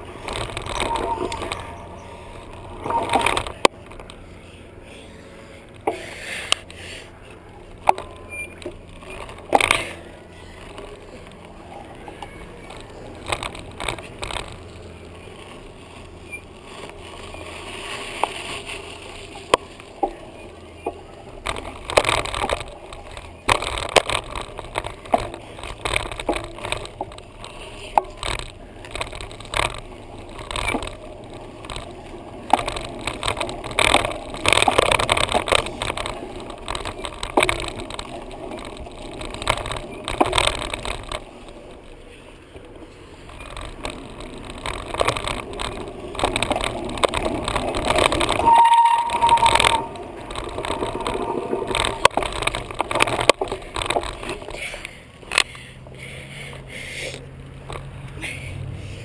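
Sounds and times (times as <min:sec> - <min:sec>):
rumble of tyres and wind: 0:00.0 - 0:59.0.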